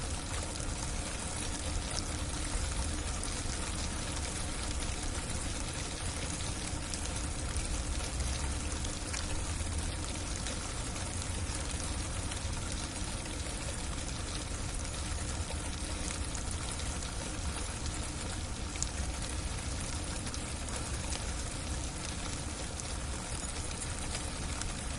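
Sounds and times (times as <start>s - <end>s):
icy rain on a roof: 0.0s - 24.9s.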